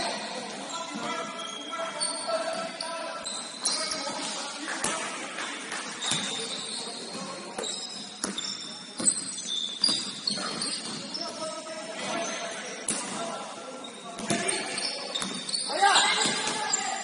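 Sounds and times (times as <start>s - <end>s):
sneaker squeaks: 0.0s - 5.0s, 5.7s - 17.0s
players' voices: 0.0s - 9.3s, 9.9s - 17.0s.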